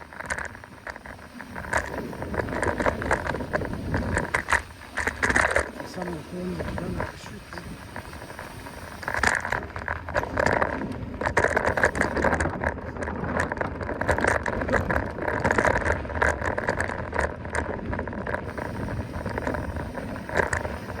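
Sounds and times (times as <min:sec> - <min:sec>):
bike knocking and rattling: 0:00.0 - 0:21.0
bike tyres on dirt trail: 0:00.0 - 0:21.0.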